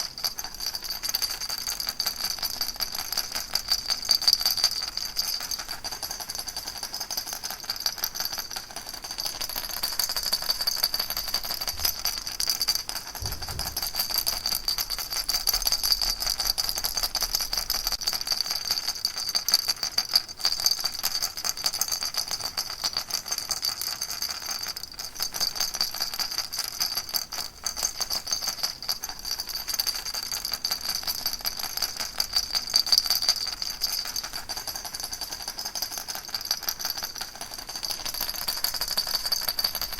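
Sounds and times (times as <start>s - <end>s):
baby rattle shaken: 0.0s - 22.6s, 24.5s - 39.9s.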